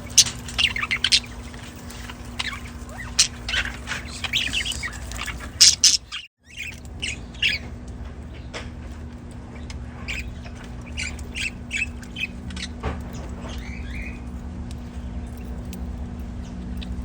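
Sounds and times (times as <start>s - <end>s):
budgerigars chirping and squawking: 0.0s - 8.7s, 9.5s - 15.8s
steady low hum: 0.0s - 17.0s.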